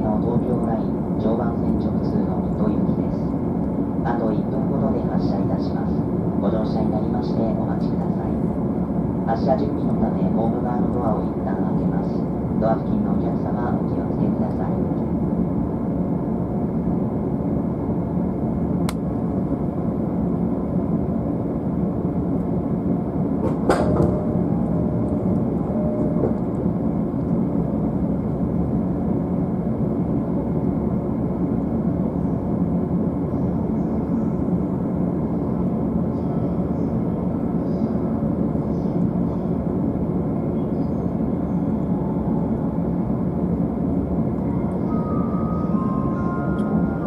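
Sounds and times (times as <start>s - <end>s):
train air conditioning hum: 0.0s - 47.0s.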